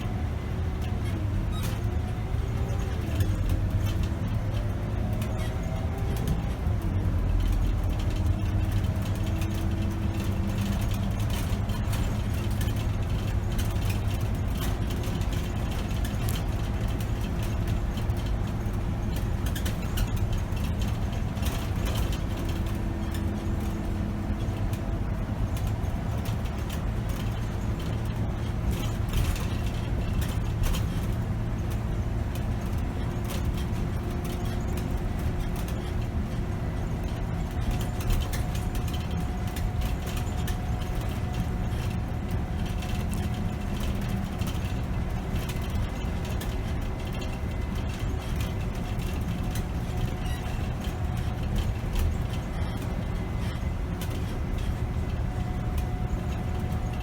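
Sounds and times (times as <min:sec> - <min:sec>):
bus engine and road drone: 0:00.0 - 0:57.0.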